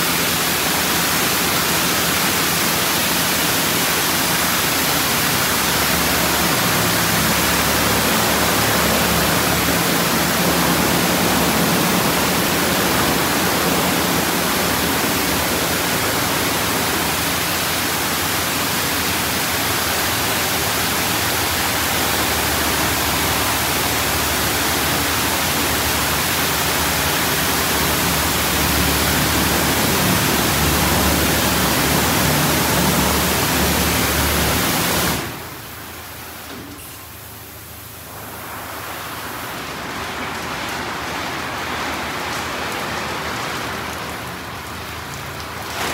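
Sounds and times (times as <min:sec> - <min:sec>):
loud rush of spray: 0:00.0 - 0:45.9.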